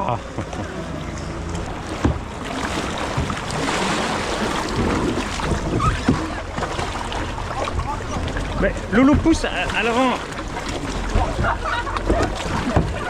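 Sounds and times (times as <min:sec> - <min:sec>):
water splashing around a kayak: 0:00.0 - 0:13.0
wind buffeting microphone: 0:00.2 - 0:13.0.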